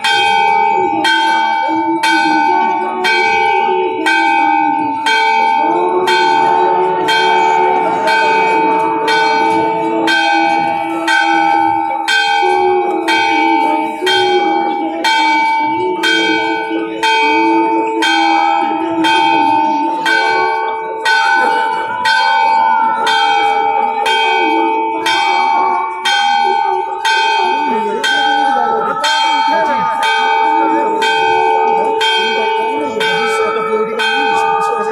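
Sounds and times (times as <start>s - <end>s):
brass bells ringing: 0.0s - 34.9s
faint crowd voices: 0.0s - 34.9s.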